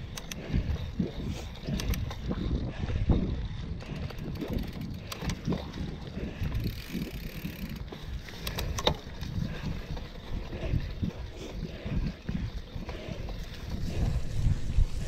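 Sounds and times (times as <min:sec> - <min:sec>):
bike frame rattling and clicking: 0:00.0 - 0:15.0
bike tyres rumbling on trail: 0:00.0 - 0:15.0.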